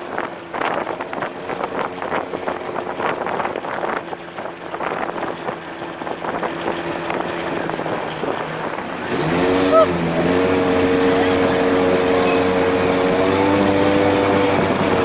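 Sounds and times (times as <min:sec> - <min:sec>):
small car engine running: 0:00.0 - 0:15.0
wind noise on microphone: 0:00.0 - 0:15.0.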